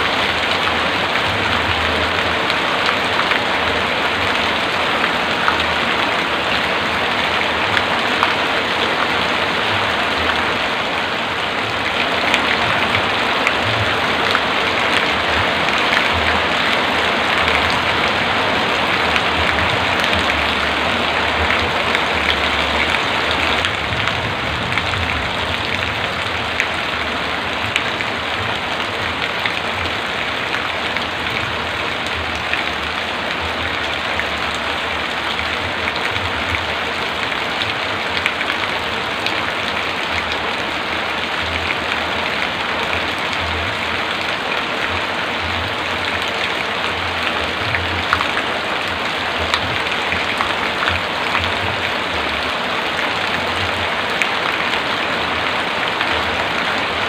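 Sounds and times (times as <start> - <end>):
heavy rain downpour: 0.0 - 57.0
raindrops ticking: 0.0 - 57.0.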